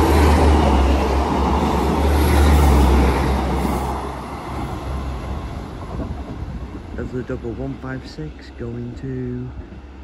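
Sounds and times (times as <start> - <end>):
train passing rumble: 0.0 - 10.0
wheel and rail noise: 0.0 - 10.0.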